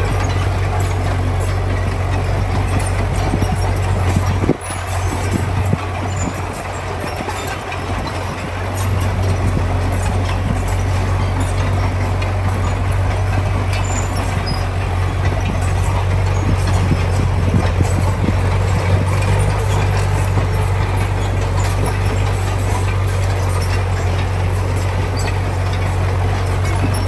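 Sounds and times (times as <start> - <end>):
heavy diesel machinery engine: 0.0 - 27.0
knocks and clanks: 0.0 - 27.0.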